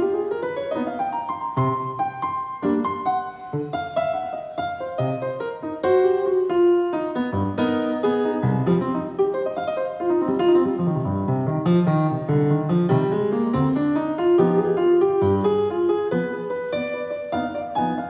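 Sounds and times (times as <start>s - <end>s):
solo jazz piano: 0.0s - 18.0s.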